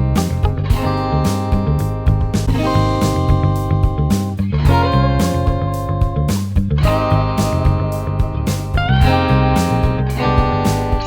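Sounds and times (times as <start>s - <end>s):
guitar: 0.0s - 11.0s
moving bass line: 0.0s - 11.0s.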